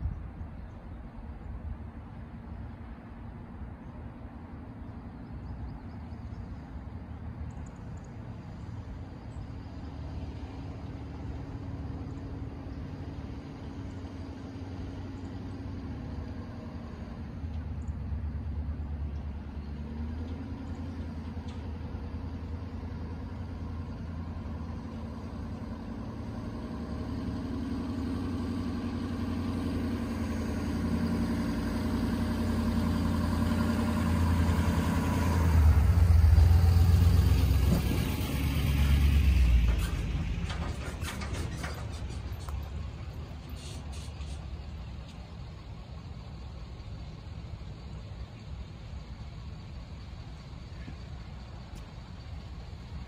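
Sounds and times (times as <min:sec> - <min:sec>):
pickup truck engine passing: 0:08.0 - 0:53.0.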